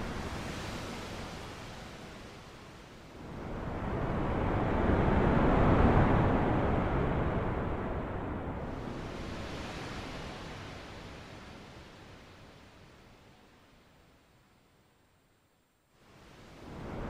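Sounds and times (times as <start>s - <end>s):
sea waves washing in: 0.0s - 12.9s, 16.0s - 17.0s.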